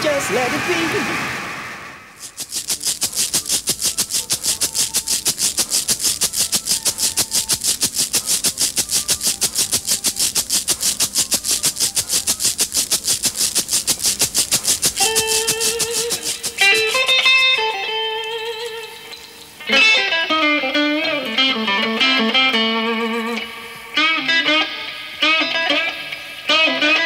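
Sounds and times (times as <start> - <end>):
electric guitar: 0.0 - 27.0
shaker rhythm: 2.1 - 24.0.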